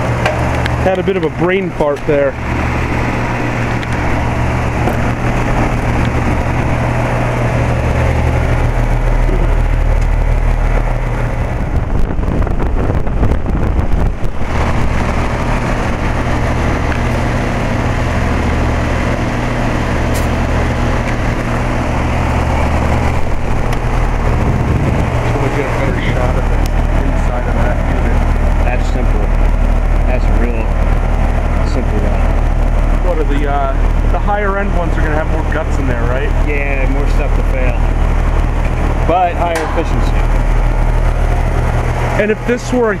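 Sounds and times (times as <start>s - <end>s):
air conditioner units humming: 0.0s - 43.0s.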